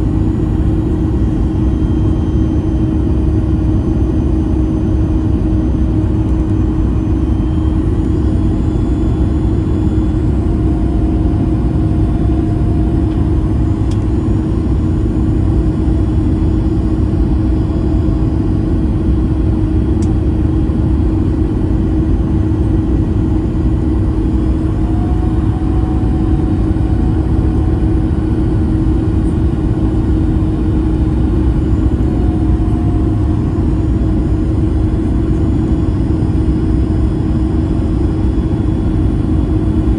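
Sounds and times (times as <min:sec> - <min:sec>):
airplane cabin engine roar: 0:00.0 - 0:39.9
constant low hum: 0:00.0 - 0:39.9.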